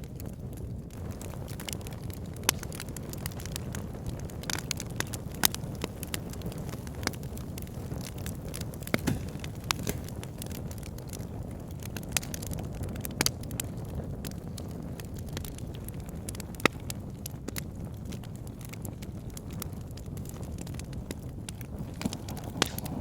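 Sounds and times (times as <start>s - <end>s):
logs burning with crackles: 0.0s - 23.0s.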